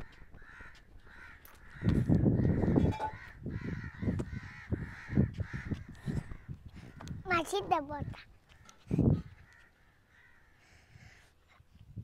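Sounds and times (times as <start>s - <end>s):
crows cawing: 0.0s - 7.2s, 8.0s - 11.3s
wind buffeting microphone: 0.0s - 9.6s, 10.9s - 12.0s.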